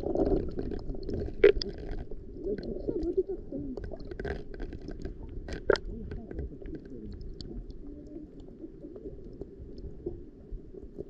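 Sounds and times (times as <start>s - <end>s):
muffled underwater sound: 0.0s - 11.0s.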